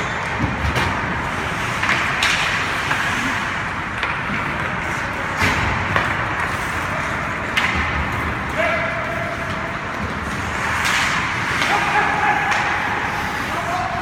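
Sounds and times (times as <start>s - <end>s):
hockey game background noise: 0.0s - 14.0s.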